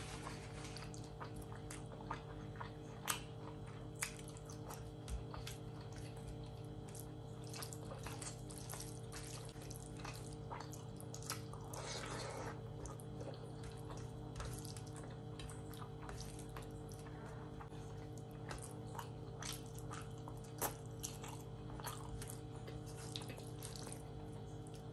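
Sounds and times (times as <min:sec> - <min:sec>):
mouth chewing and smacking: 0:00.4 - 0:24.9.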